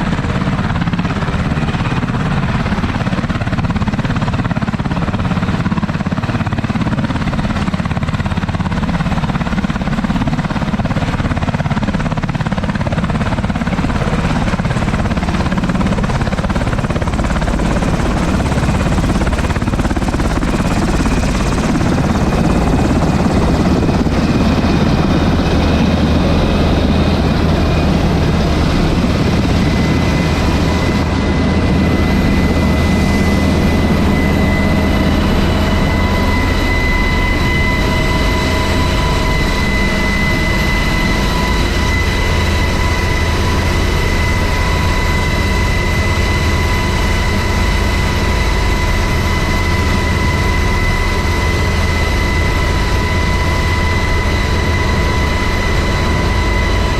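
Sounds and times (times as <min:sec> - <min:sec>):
helicopter rotor and engine noise: 0:00.0 - 0:56.9.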